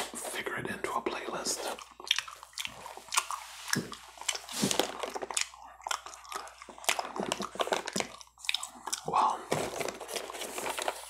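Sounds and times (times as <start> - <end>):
wet gum chewing: 1.0 - 10.9.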